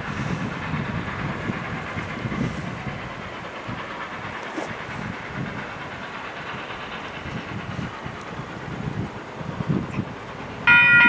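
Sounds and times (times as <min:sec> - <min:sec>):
steady steam hiss: 0:00.0 - 0:10.7
steam locomotive exhaust beat: 0:00.0 - 0:11.0.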